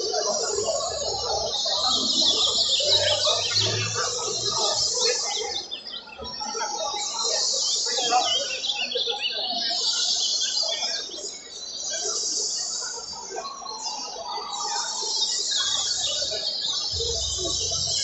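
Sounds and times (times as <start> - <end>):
birds singing in chorus: 0.0 - 18.0.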